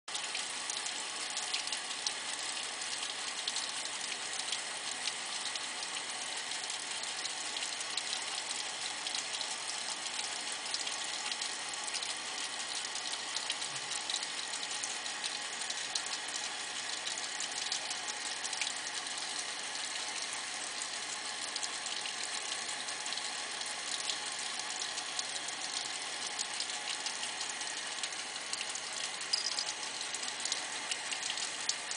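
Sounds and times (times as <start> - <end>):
tap water running into sink: 0.1 - 31.9.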